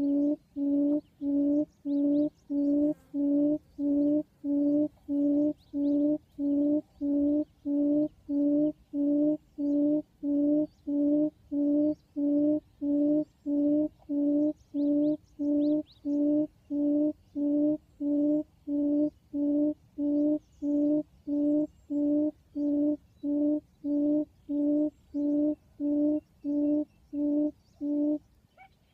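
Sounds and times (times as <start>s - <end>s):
bird low hooting call: 0.0s - 28.9s.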